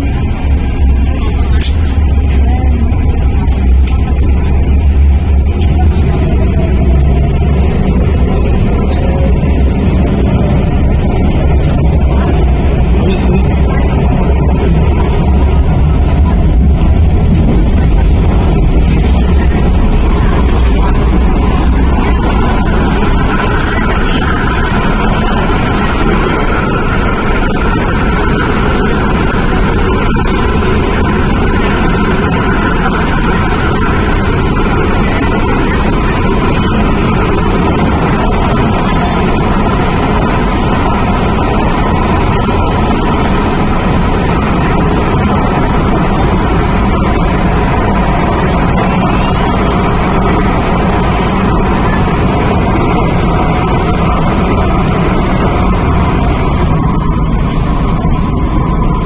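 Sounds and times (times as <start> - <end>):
electric train rumble: 0.0 - 59.0
train drive hum: 0.0 - 59.0.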